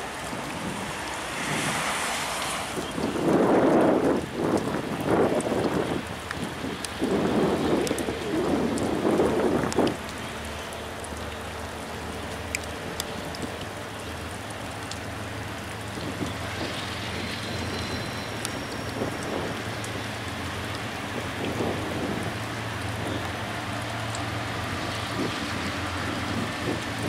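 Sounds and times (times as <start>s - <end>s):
diesel locomotives rumbling: 0.0s - 27.0s
rain hiss: 0.0s - 27.0s
raindrop ticks: 0.0s - 27.0s.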